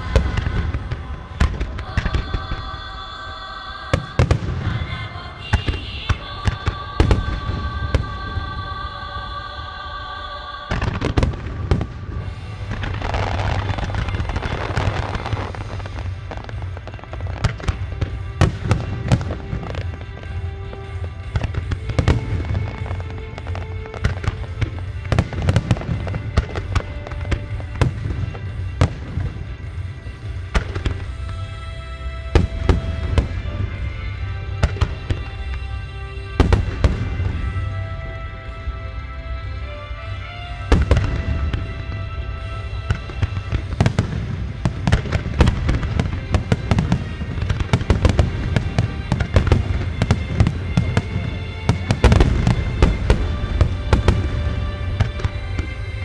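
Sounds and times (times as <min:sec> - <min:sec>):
fireworks bursting with booms: 0:00.0 - 0:03.2, 0:03.8 - 0:09.4, 0:10.6 - 0:38.6, 0:40.0 - 0:56.0
song playing: 0:00.0 - 0:56.0.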